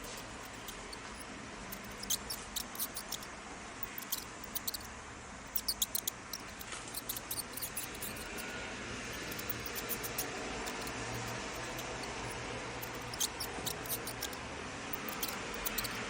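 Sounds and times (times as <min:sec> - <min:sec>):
mouse squeaking: 0:00.0 - 0:04.9, 0:05.5 - 0:16.0.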